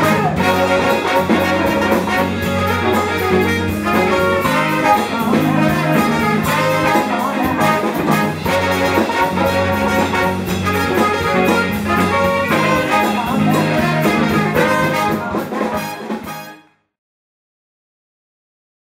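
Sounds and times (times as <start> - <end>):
live soul-funk band: 0.0 - 16.6
trumpet and trombone horns: 0.0 - 16.8.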